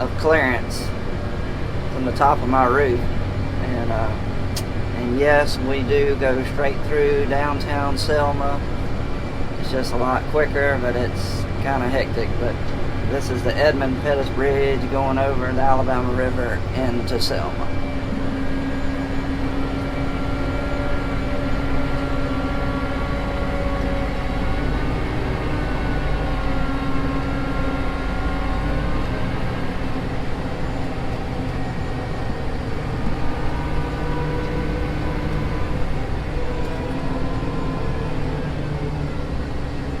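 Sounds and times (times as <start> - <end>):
diesel engine running: 0.0 - 40.0
faint whine: 0.0 - 40.0
road noise: 0.0 - 40.0.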